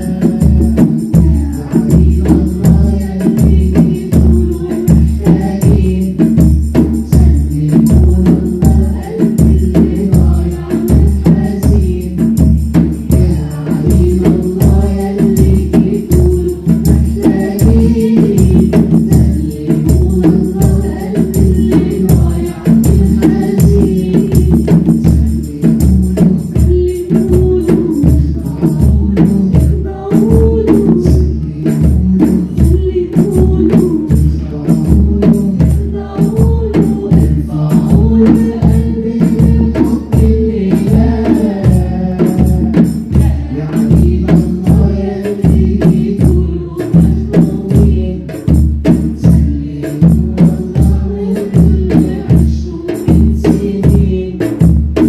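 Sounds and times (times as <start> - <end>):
frame drum beating: 0.0 - 55.0
group of voices singing: 0.0 - 55.0.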